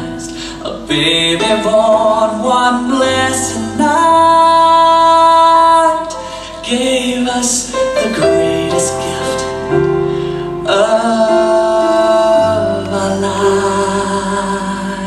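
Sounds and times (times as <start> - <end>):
keyboard chords: 0.0 - 15.0
slow worship song: 0.0 - 15.0.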